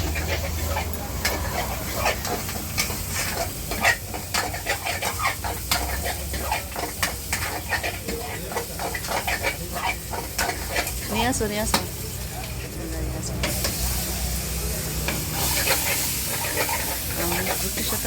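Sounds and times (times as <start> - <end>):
metal spatula scraping a pan: 0.0 - 11.9, 15.0 - 18.0
food sizzling in a pan: 0.0 - 18.0.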